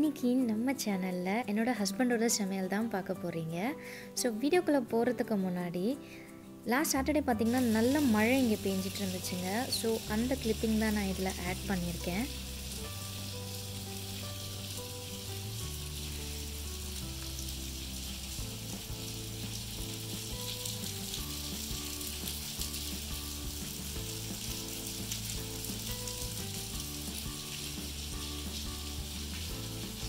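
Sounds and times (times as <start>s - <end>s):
soft music of held low notes: 0.0s - 30.0s.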